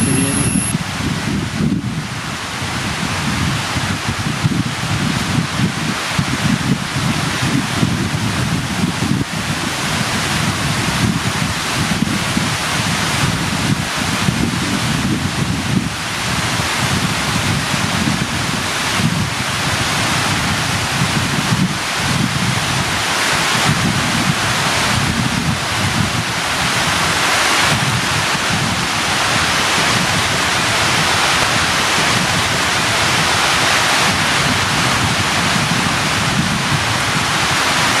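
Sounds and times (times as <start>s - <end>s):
heavy rain pouring: 0.0s - 38.0s
wind buffeting microphone: 0.0s - 38.0s.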